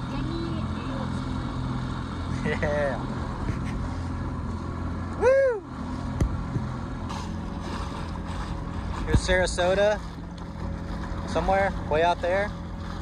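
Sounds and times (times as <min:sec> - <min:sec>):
outboard motor running: 0:00.0 - 0:13.0
wind and water noise: 0:00.0 - 0:13.0.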